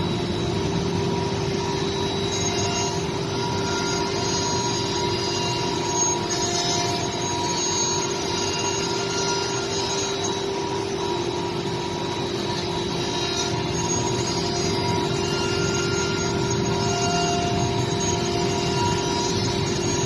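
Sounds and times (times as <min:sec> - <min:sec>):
wood router spindle whine: 0:00.0 - 0:20.0.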